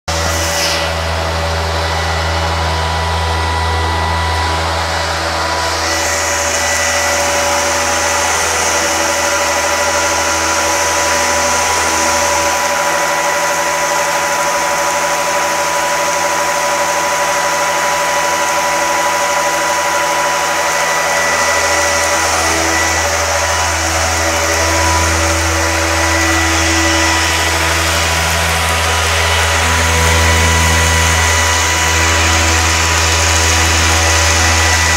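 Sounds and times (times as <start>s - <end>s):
deep machine hum: 0.0s - 34.9s
water coolant jets hissing: 0.0s - 34.9s
spindle whining: 0.1s - 34.9s.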